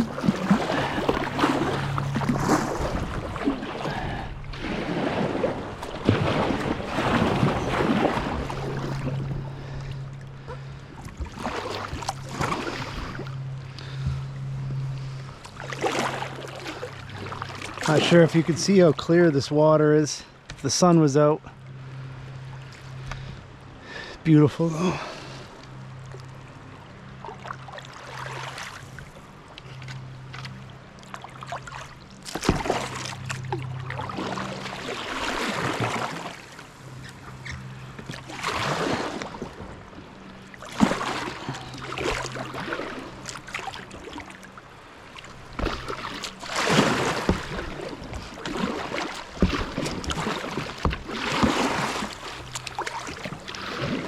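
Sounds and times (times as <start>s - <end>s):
paddle splashing in water: 0.0s - 19.1s, 27.2s - 54.0s
low steady hum: 0.0s - 54.0s.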